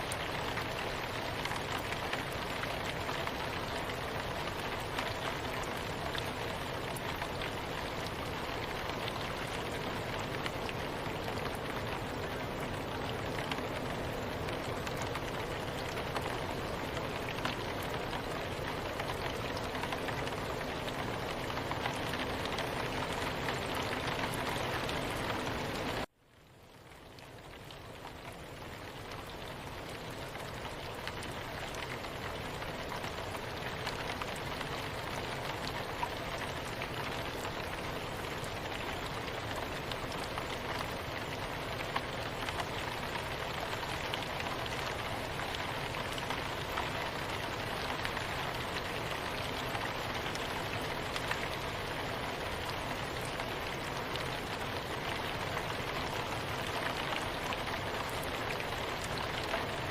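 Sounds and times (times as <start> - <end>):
soft steady rain: 0.0 - 59.9.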